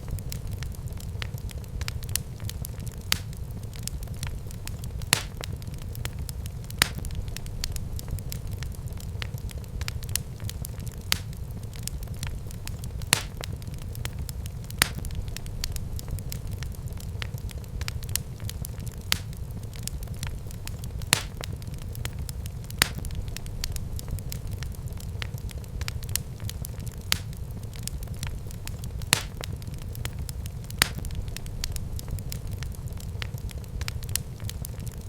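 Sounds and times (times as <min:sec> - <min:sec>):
sharp fire pops: 0:00.0 - 0:35.0
wood fire crackling: 0:00.0 - 0:35.0.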